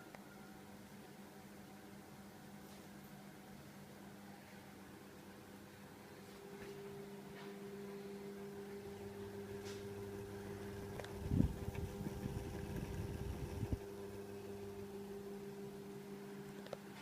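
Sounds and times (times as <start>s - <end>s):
ceiling fan motor hum: 0.0s - 17.0s.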